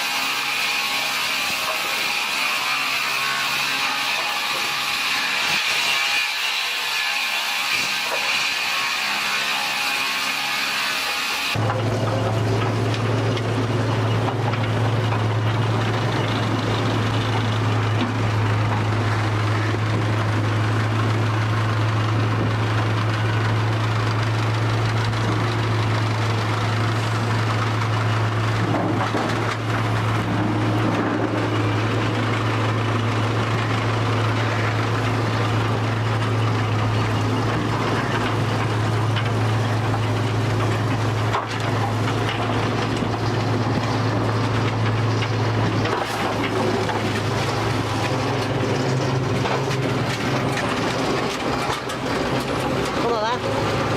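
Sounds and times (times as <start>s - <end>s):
heavy machinery running: 0.0s - 53.9s.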